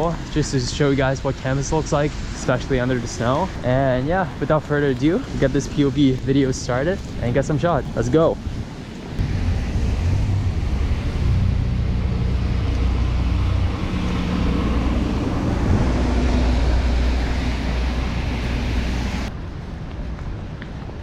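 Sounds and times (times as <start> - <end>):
traffic: 0.0 - 21.0
wind on microphone: 0.0 - 21.0.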